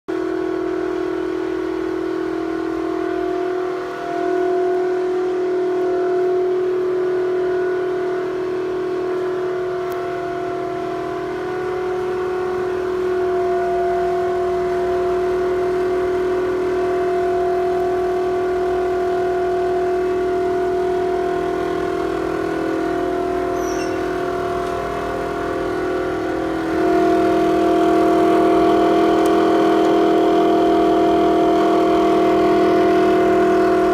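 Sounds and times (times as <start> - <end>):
ventilation fan droning hum: 0.2 - 33.9.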